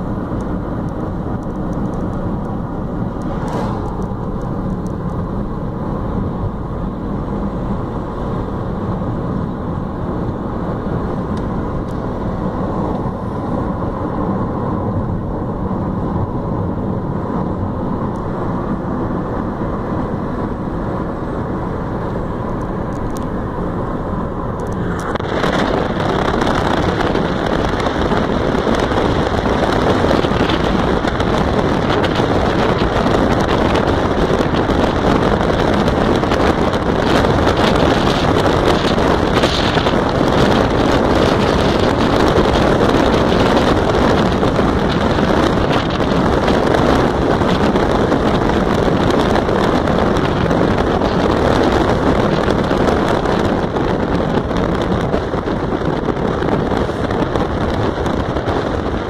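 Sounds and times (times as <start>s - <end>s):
car road noise at speed: 0.0s - 59.0s
wind buffeting microphone: 0.0s - 59.0s.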